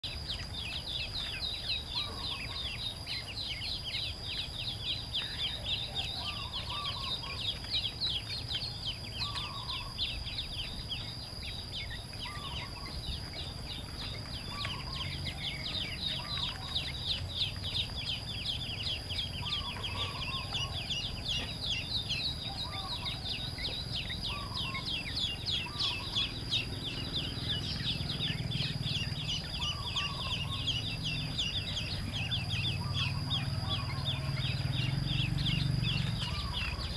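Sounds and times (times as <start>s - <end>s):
ducklings peeping: 0.0s - 36.9s.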